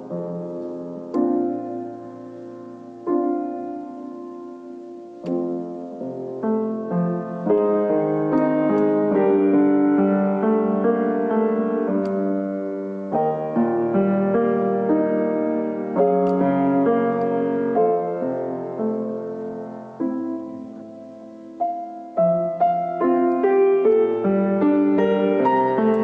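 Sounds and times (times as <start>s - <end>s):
solo piano piece: 0.0s - 26.0s.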